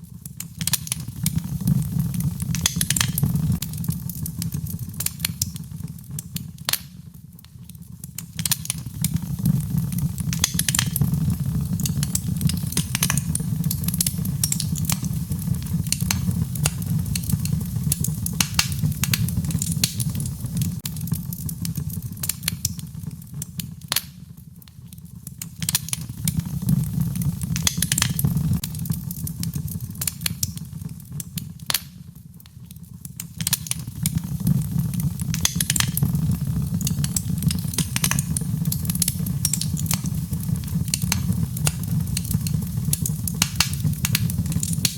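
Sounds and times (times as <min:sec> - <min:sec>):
fire crackling and popping: 0:00.0 - 0:44.9
low fire rumble: 0:00.0 - 0:44.9.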